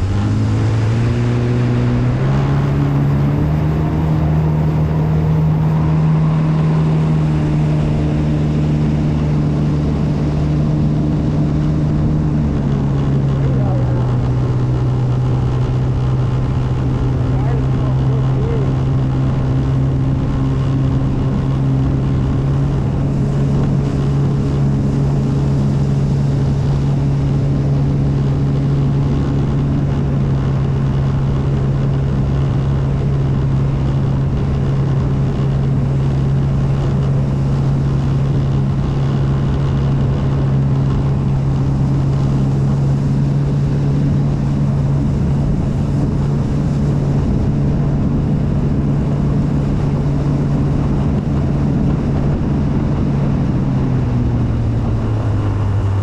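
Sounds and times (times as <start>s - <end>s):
jet ski engine running: 0.0s - 56.0s
wind buffeting microphone: 0.0s - 56.0s.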